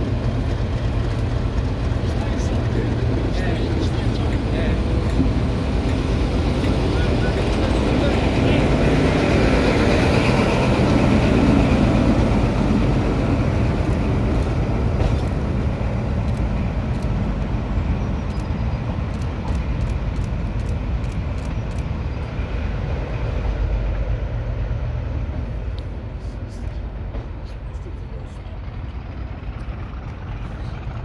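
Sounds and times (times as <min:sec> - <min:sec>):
diesel train engine rumbling: 0:00.0 - 0:31.0.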